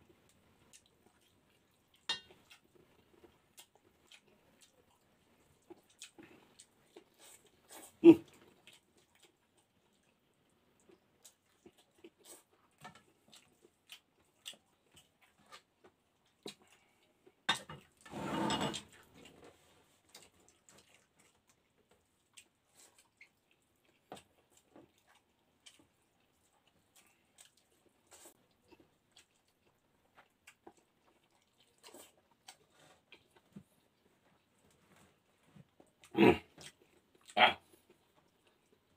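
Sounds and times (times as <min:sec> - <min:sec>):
lip smacks and chewing: 0:00.2 - 0:17.5, 0:19.1 - 0:38.9.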